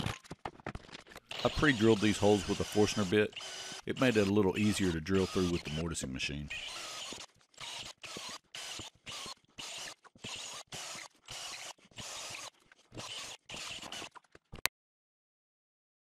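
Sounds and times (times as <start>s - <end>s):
hand tool scraping wood: 0.0s - 14.5s.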